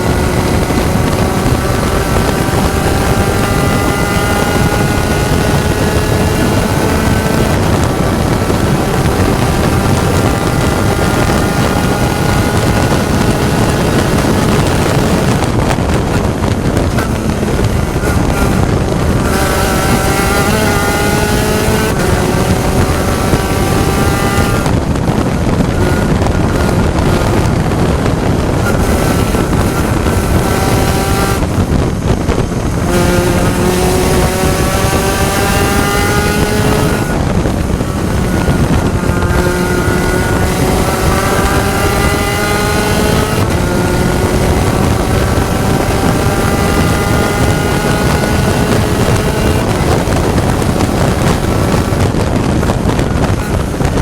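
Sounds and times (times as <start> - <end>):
race car engine accelerating: 0.0 - 54.0
wind noise on microphone: 0.0 - 54.0.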